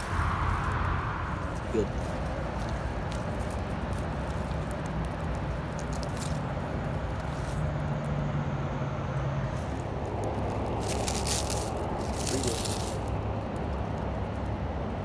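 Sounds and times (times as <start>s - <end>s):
rustles of dry leaf litter: 0.0s - 8.2s, 9.4s - 14.6s
low outdoor rumble: 0.0s - 15.0s
low steady hum: 0.0s - 15.0s.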